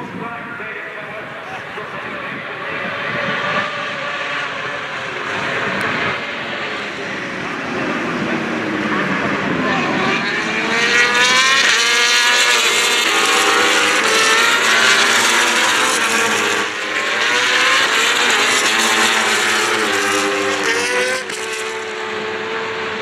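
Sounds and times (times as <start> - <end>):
superbike engines revving past: 2.8 - 23.0.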